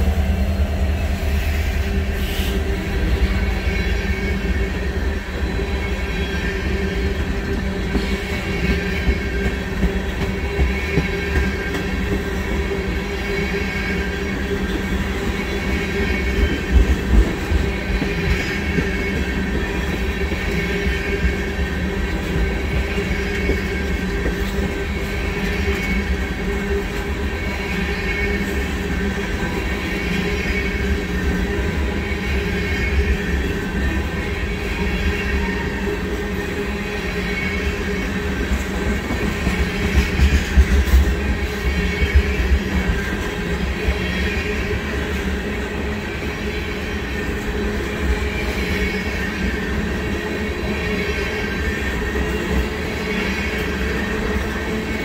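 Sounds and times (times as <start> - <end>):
steel wheels rumbling on rail: 0.0 - 55.0
faint high wheel squeal: 1.4 - 55.0.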